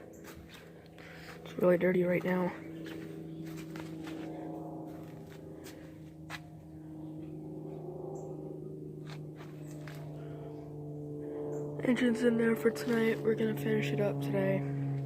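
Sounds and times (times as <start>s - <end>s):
low hum of held tones: 0.0s - 15.0s.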